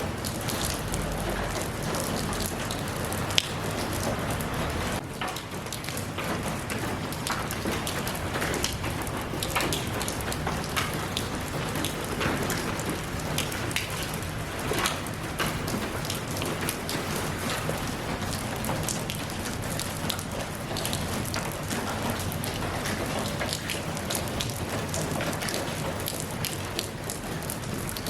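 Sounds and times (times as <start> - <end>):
rain hiss: 0.0 - 28.0.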